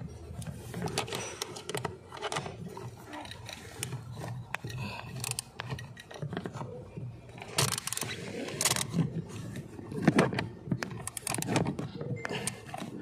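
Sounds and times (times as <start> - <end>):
clicks and scrapes of plastic parts: 0.0 - 13.0.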